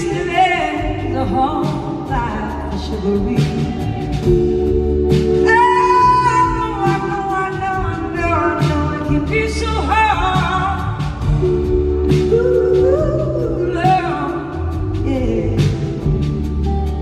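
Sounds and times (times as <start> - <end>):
woman singing: 0.0 - 16.8
bass line: 0.0 - 17.0
drums with cymbal hits: 0.0 - 17.0.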